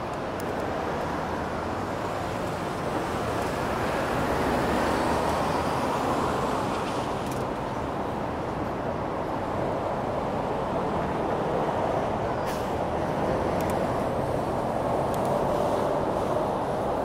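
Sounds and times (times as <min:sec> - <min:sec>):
rushing road noise: 0:00.0 - 0:17.0.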